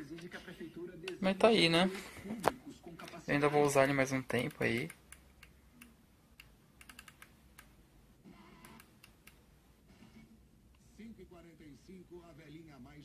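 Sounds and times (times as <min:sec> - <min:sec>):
faint radio speaker sound: 0:00.0 - 0:13.0.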